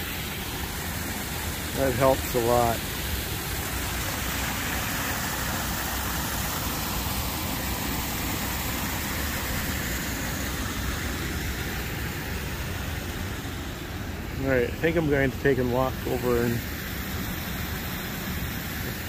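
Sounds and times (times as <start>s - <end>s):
water rushing over a dam: 0.0s - 19.0s.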